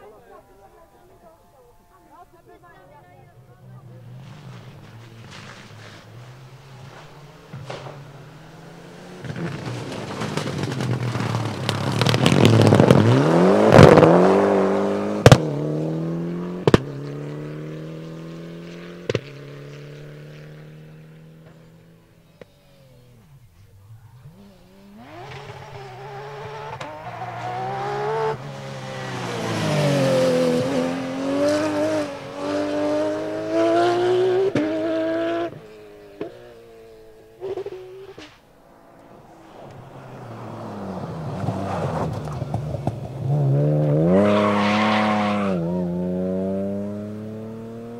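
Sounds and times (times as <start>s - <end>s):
rally car engine passing: 0.0s - 47.9s
car engine revving through gears: 3.6s - 47.9s.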